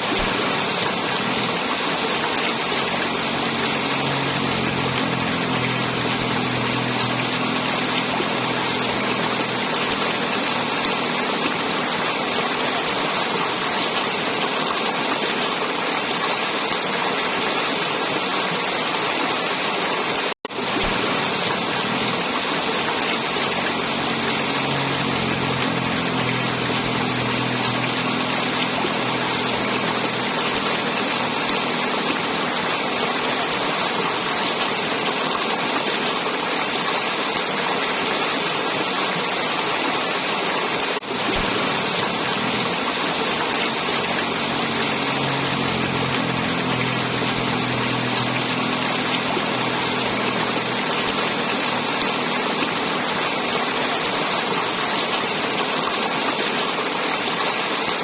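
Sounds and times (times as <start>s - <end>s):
river water gurgling: 0.0s - 58.0s.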